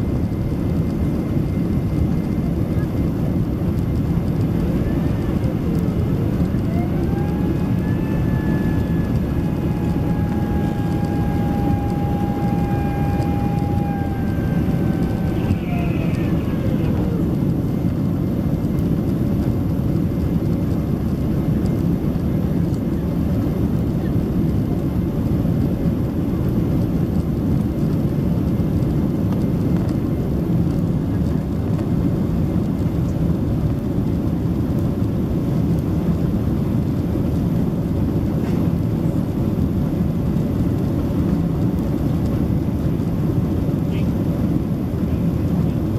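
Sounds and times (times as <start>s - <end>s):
airplane cabin roar: 0.0s - 45.9s
engine whine: 0.0s - 45.9s.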